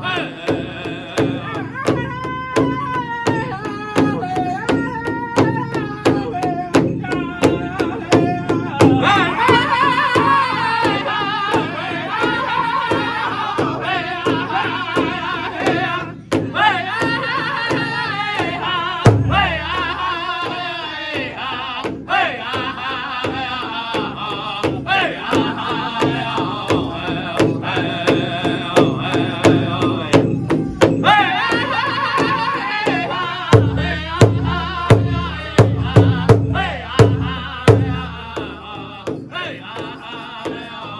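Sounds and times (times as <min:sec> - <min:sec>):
large drum steady beat: 0:00.0 - 0:40.9
people singing high wavering song: 0:00.0 - 0:40.9.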